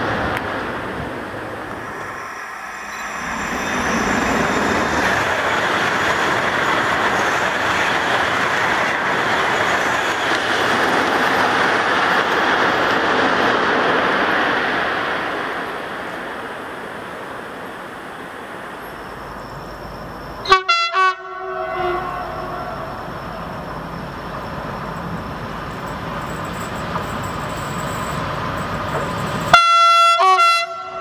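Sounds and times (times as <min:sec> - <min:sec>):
high-speed train rushing past: 0:00.0 - 0:31.0.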